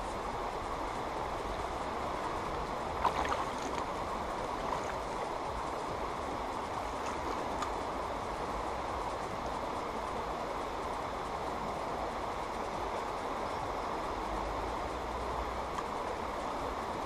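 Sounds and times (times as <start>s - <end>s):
river water over gravel: 0.0s - 17.0s.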